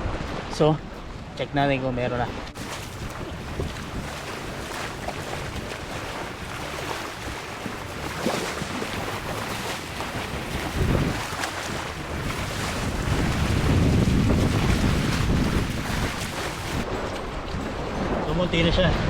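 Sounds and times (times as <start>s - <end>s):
water moving at shoreline: 0.0s - 19.0s
wind buffeting microphone: 2.2s - 19.0s.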